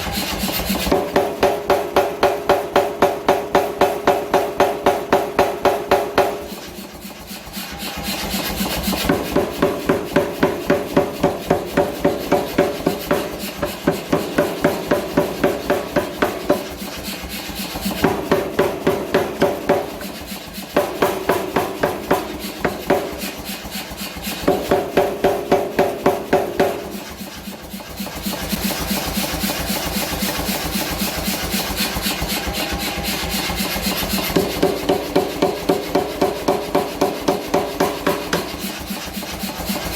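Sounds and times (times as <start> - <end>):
power hammer pounding steel: 0.0 - 39.9.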